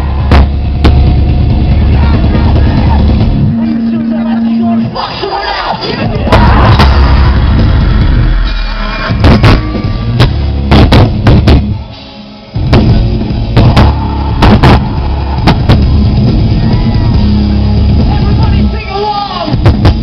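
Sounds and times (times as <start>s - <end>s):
drum and cymbal hits: 0.0s - 5.0s, 6.0s - 20.0s
live rock band: 0.0s - 20.0s.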